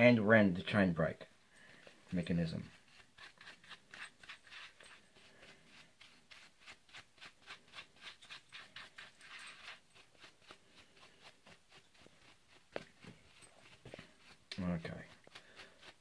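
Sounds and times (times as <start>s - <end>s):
brush scrubbing plastic housing: 2.1s - 16.0s.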